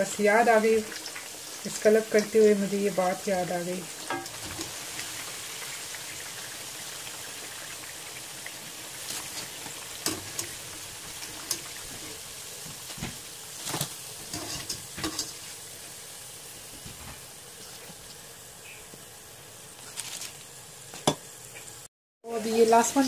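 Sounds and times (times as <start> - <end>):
food deep-frying in hot oil: 0.0 - 23.0.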